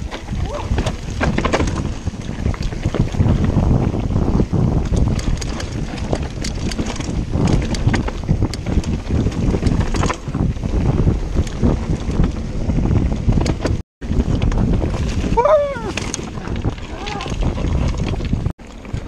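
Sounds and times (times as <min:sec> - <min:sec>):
bike clattering over bumps: 0:00.0 - 0:19.0
tyre rumble: 0:00.0 - 0:19.0
wind buffeting microphone: 0:00.0 - 0:19.0.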